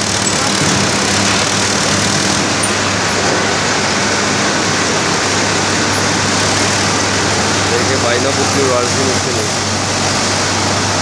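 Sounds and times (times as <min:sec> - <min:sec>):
loud machinery noise: 0:00.0 - 0:11.0
tractor engine humming: 0:00.0 - 0:11.0.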